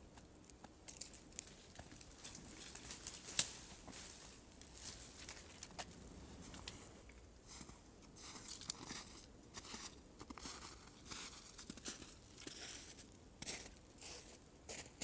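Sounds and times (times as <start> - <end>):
footsteps crunching in snow: 1.0 - 15.0.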